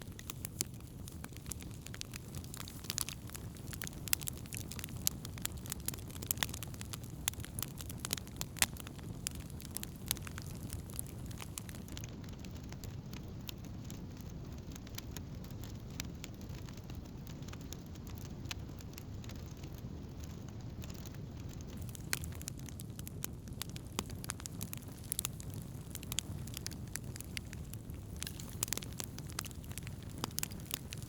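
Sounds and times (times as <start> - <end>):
burning wood crackling and popping: 0.0 - 31.0
low rumble of flames: 0.0 - 31.0.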